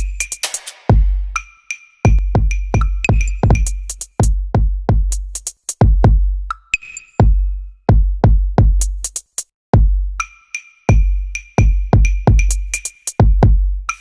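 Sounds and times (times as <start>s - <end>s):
electronic music with drum-machine beat: 0.0s - 14.0s.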